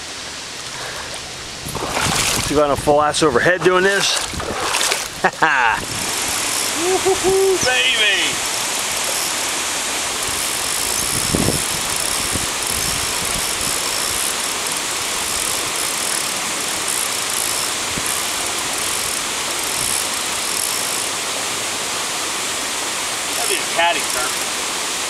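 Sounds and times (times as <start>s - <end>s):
river water over rocks: 0.0s - 25.0s.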